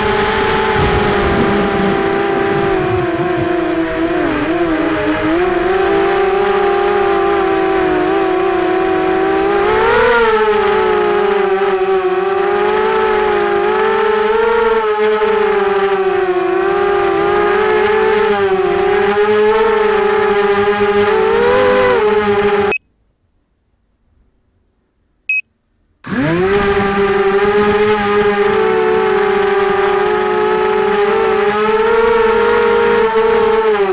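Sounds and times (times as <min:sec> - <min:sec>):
quadcopter motors whining: 0:00.0 - 0:22.8, 0:26.0 - 0:33.9.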